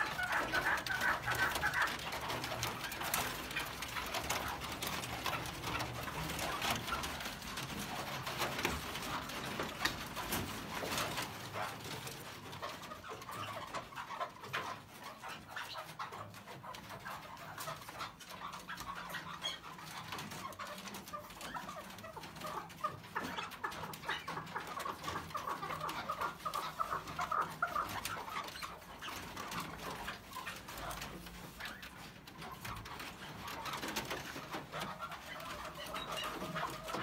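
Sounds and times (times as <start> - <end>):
partridges clucking and calling: 0.0 - 37.0.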